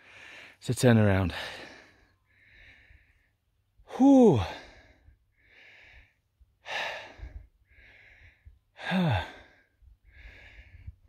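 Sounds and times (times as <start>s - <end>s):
man breathing hard: 0.0s - 0.6s, 1.3s - 11.0s.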